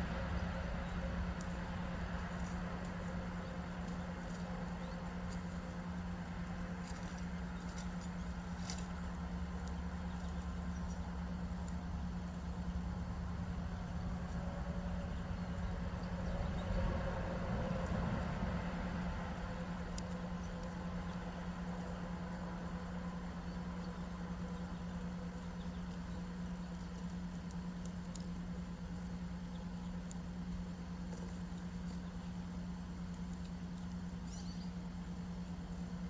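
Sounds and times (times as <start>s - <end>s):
background hum and low rumble: 0.0s - 36.0s.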